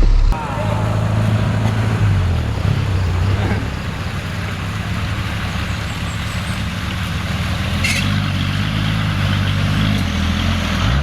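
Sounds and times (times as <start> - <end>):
off-road engine under load: 0.0 - 11.0.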